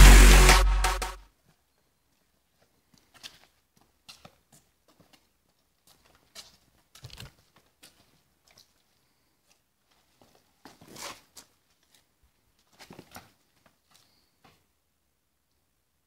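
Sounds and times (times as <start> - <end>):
faint footsteps on wet stone: 1.5 - 14.6.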